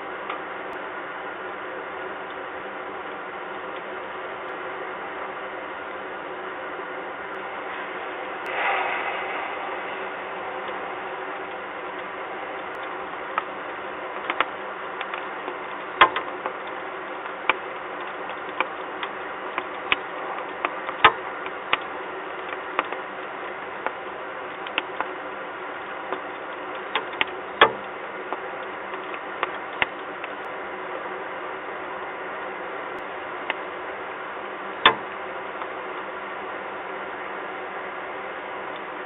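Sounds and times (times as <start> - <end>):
rain hiss: 0.0 - 31.9.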